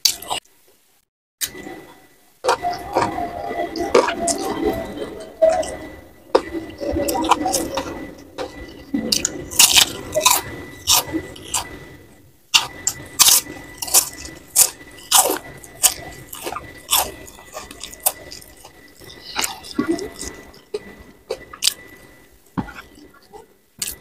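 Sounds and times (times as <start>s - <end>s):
person chewing crunchy food: 0.0s - 0.5s, 2.4s - 3.2s, 3.8s - 4.7s, 5.5s - 11.9s, 12.5s - 24.0s.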